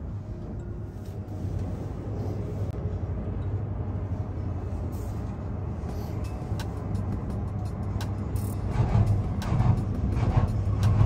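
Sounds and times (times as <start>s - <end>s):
cable car rumble and hum: 0.0s - 11.0s.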